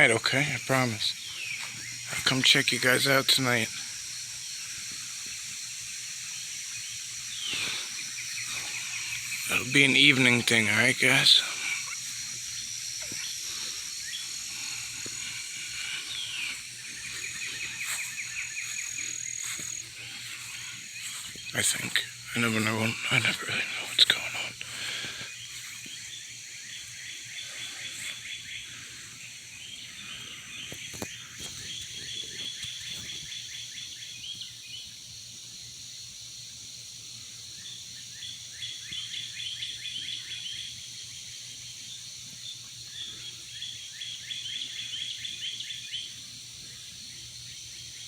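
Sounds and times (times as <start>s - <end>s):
birds chirping: 0.0s - 48.0s
high-pitched background hiss: 0.0s - 48.0s.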